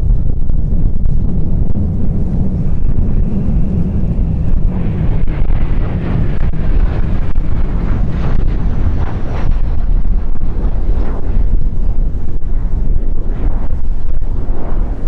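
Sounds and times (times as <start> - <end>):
jet engine roar: 0.0 - 15.0
wind buffeting microphone: 0.0 - 15.0.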